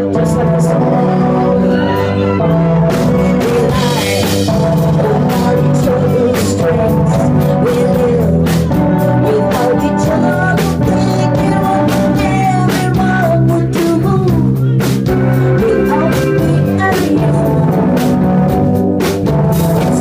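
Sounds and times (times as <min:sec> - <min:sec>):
woman singing: 0:00.0 - 0:18.3
drums: 0:00.0 - 0:20.0
electric guitar: 0:00.0 - 0:20.0
keyboards: 0:00.0 - 0:20.0.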